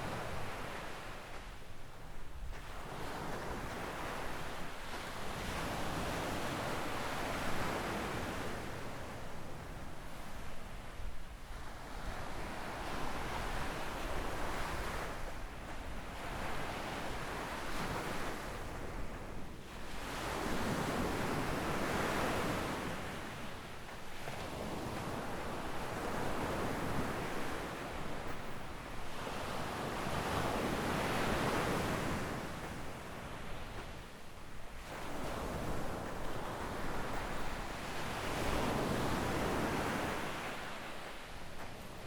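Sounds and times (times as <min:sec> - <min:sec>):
small waves breaking on beach: 0:02.5 - 0:42.0.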